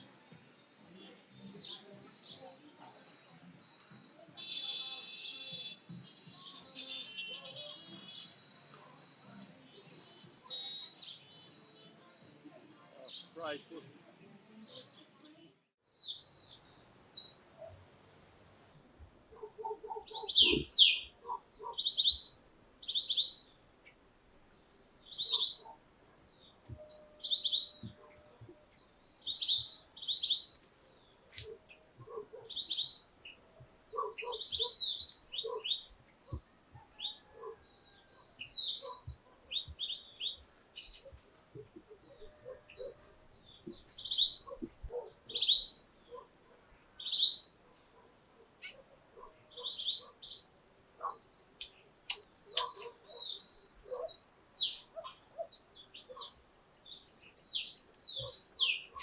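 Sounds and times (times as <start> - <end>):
birds chirping: 0.8 - 12.2, 14.6 - 59.0.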